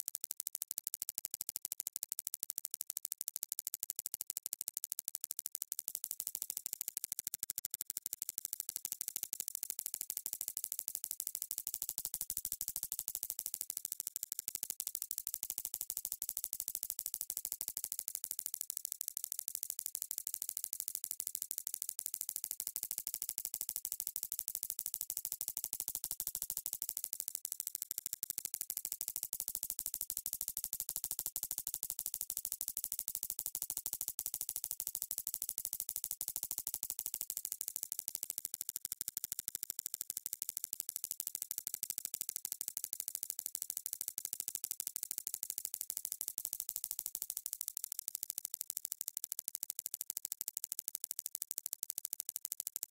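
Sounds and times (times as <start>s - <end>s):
rapid high clicks with echoes: 0.5s - 52.8s.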